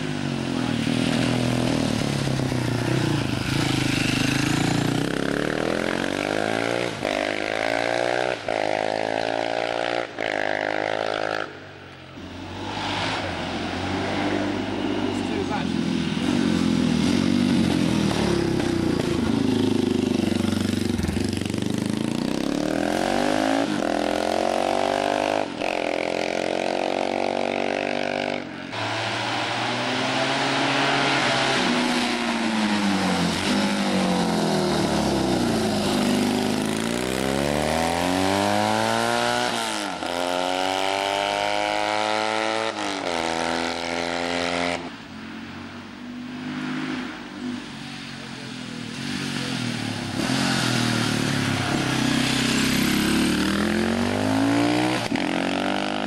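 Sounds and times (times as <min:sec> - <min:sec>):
racing motorcycles accelerating: 0:00.0 - 0:11.6, 0:12.2 - 0:45.0, 0:46.4 - 0:56.0.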